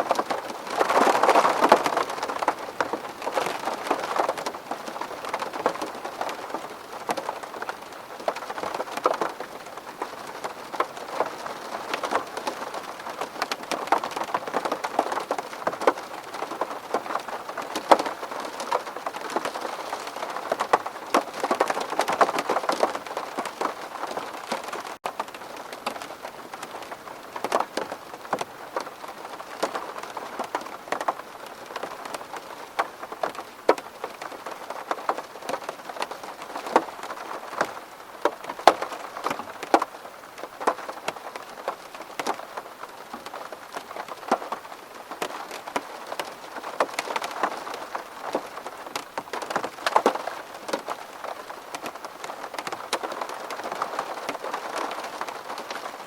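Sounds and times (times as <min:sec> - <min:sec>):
rainfall hiss: 0:00.0 - 0:56.0
raindrops ticking on glass: 0:00.1 - 0:26.0, 0:26.6 - 0:56.0.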